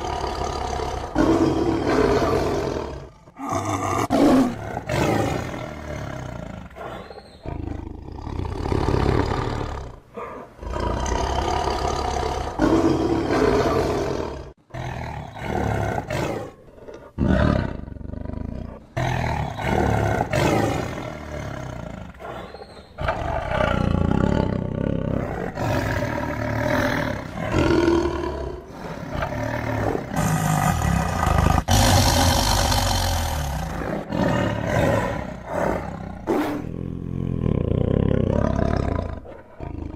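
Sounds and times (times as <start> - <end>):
tiger roaring and growling: 0.0 - 39.9.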